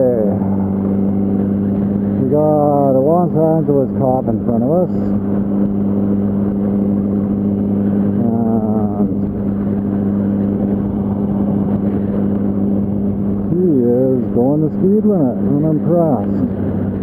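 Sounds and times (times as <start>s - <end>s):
motorcycle engine running steadily: 0.0s - 17.0s
road noise: 0.0s - 17.0s.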